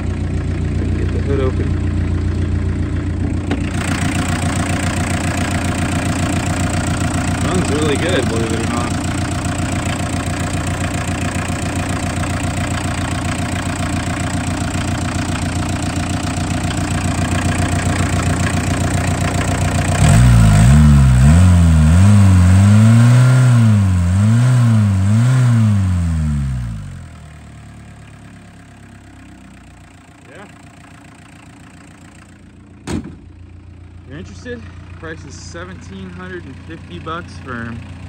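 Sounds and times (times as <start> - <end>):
diesel engine idling and revving: 0.0 - 38.0.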